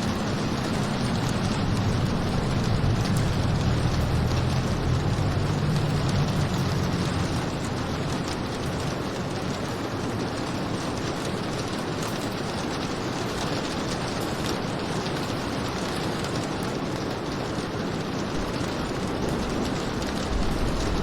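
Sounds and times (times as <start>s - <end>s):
rain falling: 0.0s - 21.0s
raindrop ticks: 0.0s - 21.0s.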